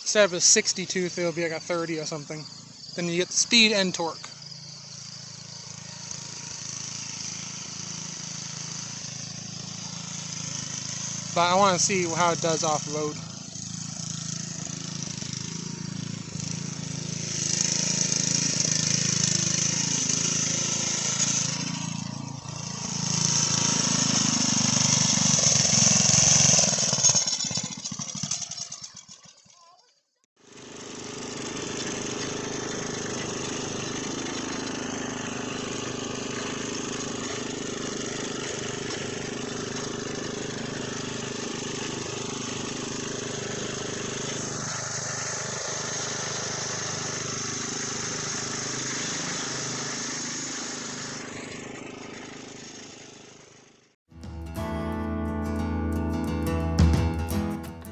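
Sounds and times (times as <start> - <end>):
single-cylinder engine running: 0.0 - 29.8, 30.4 - 54.0.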